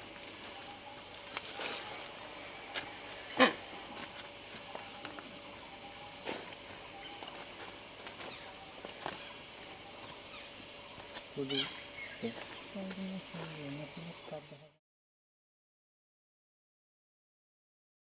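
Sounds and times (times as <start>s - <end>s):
high-pitched insect chorus: 0.0s - 14.8s.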